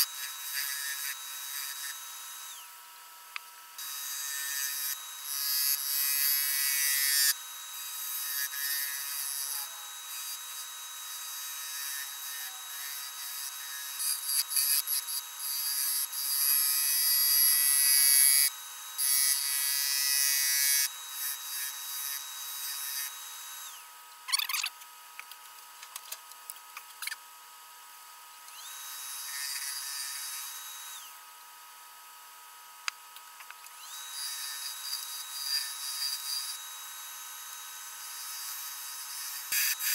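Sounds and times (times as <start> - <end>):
lathe whine: 0.0 - 24.0, 28.3 - 32.1, 33.6 - 39.9.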